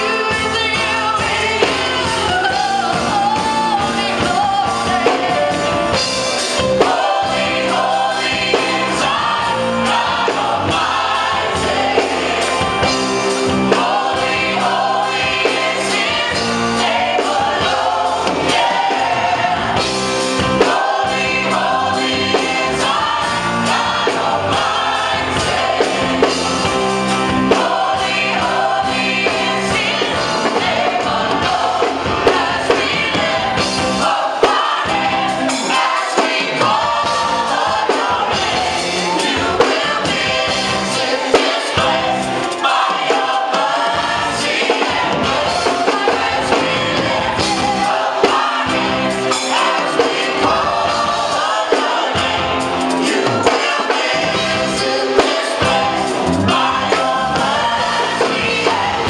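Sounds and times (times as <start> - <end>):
gospel worship music: 0.0 - 59.0.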